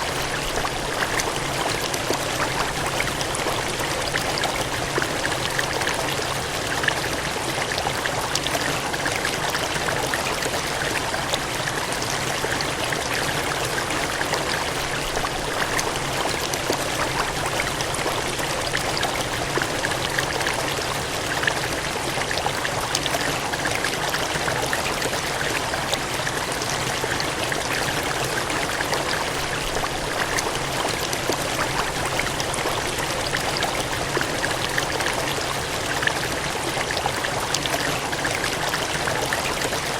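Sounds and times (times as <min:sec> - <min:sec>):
water gushing and splashing: 0:00.0 - 0:39.9.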